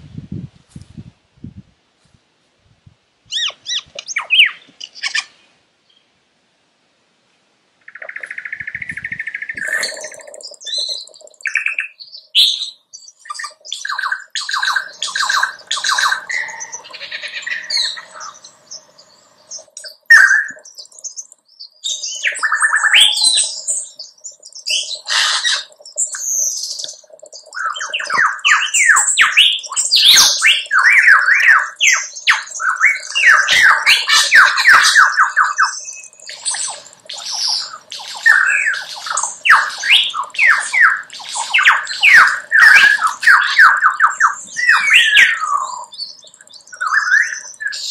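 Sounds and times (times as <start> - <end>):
lyrebird singing: 3.3 - 6.0, 7.8 - 47.9.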